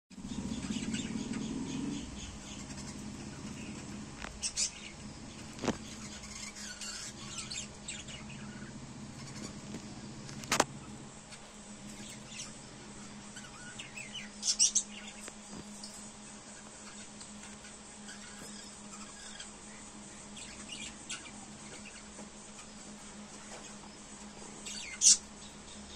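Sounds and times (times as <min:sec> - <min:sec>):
steady low hum: 0:00.1 - 0:25.9
lovebirds chirping: 0:00.2 - 0:25.9.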